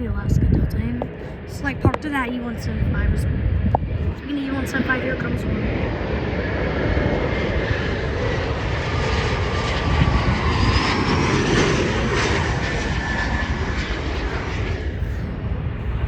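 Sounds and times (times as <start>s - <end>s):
jet taking off: 0.0s - 16.0s.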